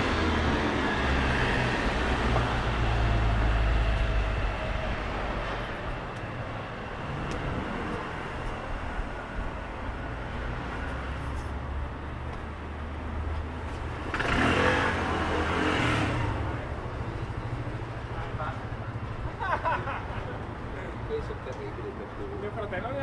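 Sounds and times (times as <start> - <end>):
close vehicle passing: 0.0 - 19.3
cars passing with low rumble: 0.0 - 23.0.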